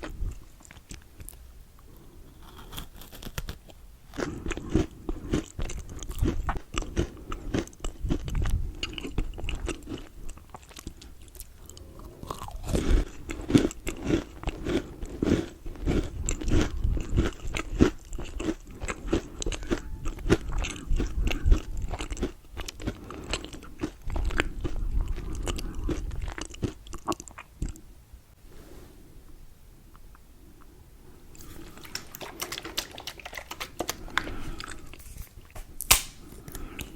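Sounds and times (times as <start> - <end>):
chewing and crunching chocolate: 0.0 - 27.9, 31.3 - 36.9.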